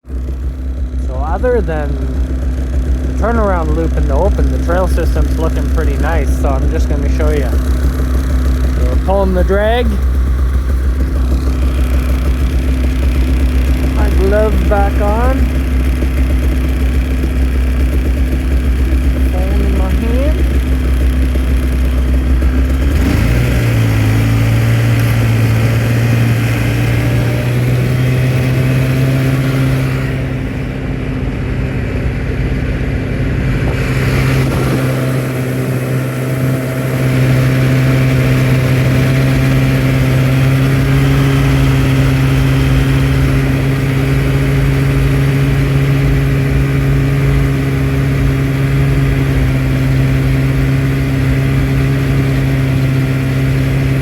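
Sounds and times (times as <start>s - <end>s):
vehicle engine droning: 0.0s - 54.0s.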